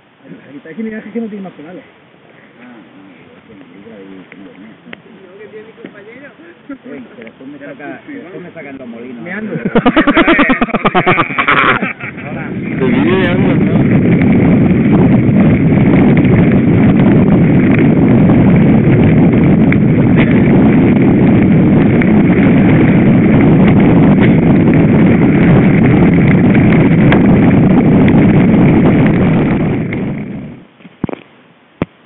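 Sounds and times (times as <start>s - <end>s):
wind buffeting microphone: 3.1s - 31.9s.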